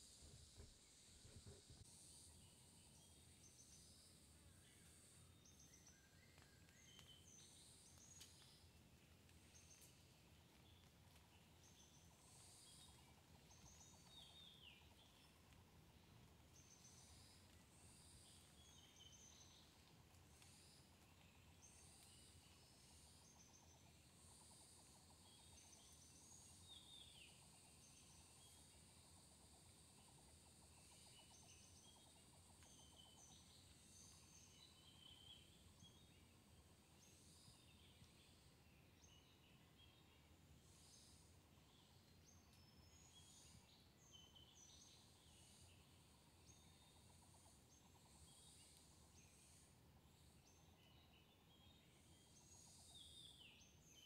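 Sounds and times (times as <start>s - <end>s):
small birds chirping: 0.0s - 54.0s
steady high hiss: 0.0s - 54.0s.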